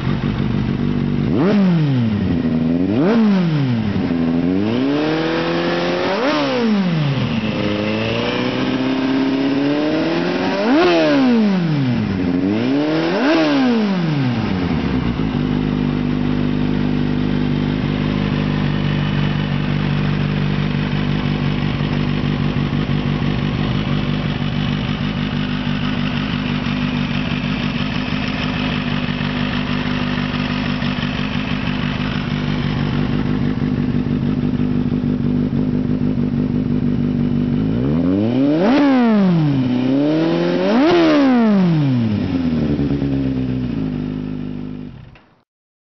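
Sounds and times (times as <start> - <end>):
motorcycle engine revving and idling: 0.0 - 45.4.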